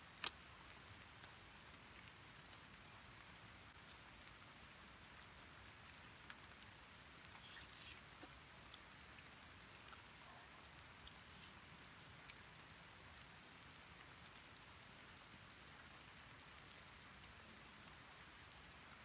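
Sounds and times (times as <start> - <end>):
faint steady rain: 0.0 - 19.0
rain drop ticks: 0.0 - 19.0.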